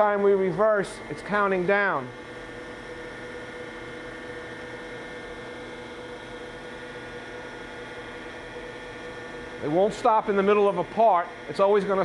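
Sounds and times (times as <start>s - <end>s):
grinder machine humming: 0.0s - 12.0s.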